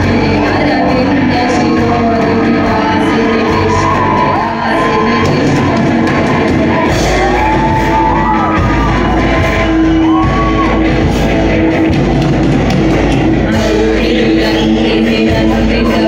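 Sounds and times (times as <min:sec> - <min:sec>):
people singing: 0:00.0 - 0:12.0, 0:13.2 - 0:16.0
live rock band: 0:00.0 - 0:16.0.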